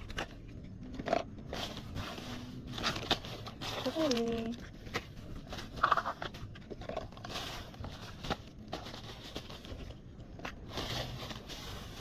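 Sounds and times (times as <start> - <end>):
plastic bag and wrappers crinkling: 0.0 - 12.0.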